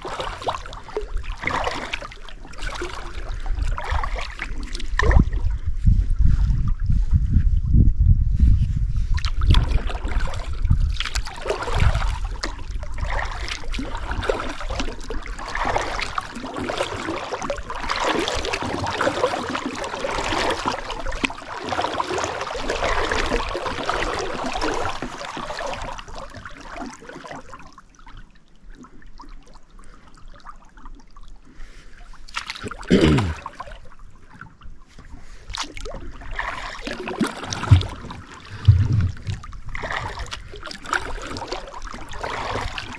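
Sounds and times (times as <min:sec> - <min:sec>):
paddle splashing water: 0:00.0 - 0:07.0, 0:09.0 - 0:42.9.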